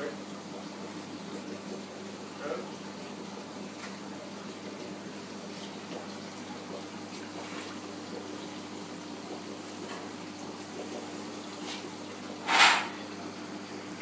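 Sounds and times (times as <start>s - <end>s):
water trickling and bubbling: 0.0s - 14.0s.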